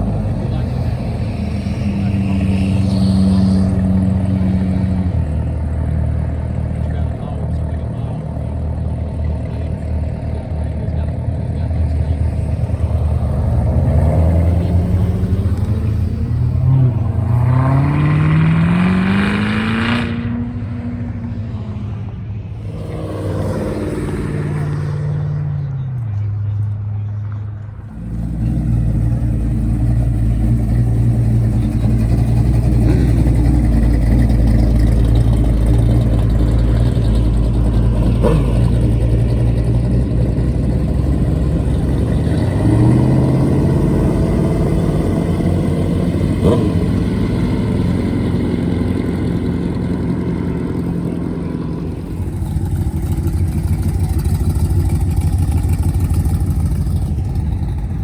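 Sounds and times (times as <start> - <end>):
car engine idling: 0.0 - 2.8, 3.5 - 18.0, 21.1 - 58.0.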